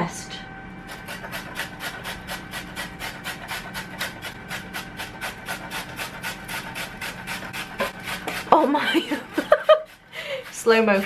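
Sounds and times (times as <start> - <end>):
carrot grated on metal grater: 0.9 - 11.0.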